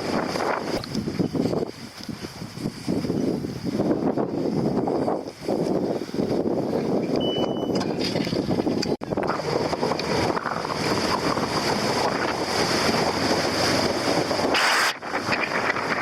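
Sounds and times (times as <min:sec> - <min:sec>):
water rushing along a hull: 0:00.0 - 0:16.0
wind buffeting microphone: 0:00.0 - 0:16.0.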